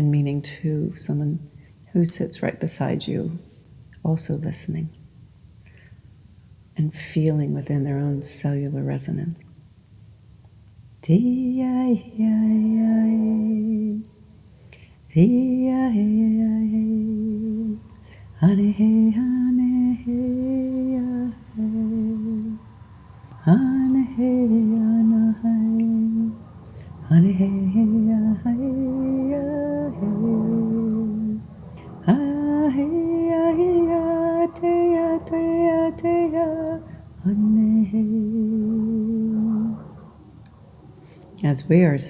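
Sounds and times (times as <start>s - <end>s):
woman singing wordless tones: 0.0s - 5.0s, 6.7s - 9.6s, 10.9s - 42.0s.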